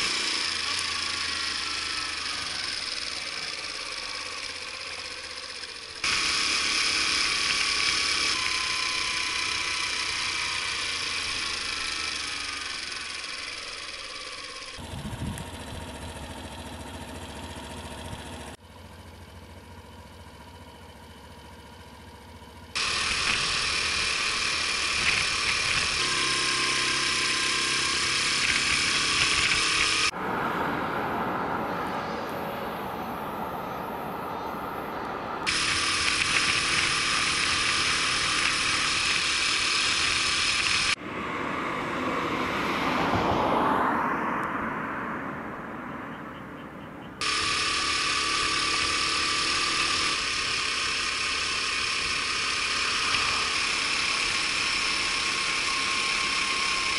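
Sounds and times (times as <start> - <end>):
wind and road noise: 0.0 - 18.7, 20.8 - 56.9
small motorcycle engine running: 0.0 - 41.1, 47.2 - 56.9.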